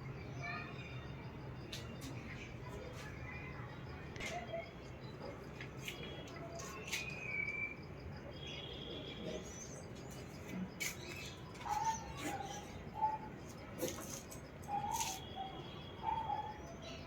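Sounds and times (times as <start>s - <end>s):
faint insect chirr: 0.0s - 17.0s
small birds chirping: 0.3s - 17.0s.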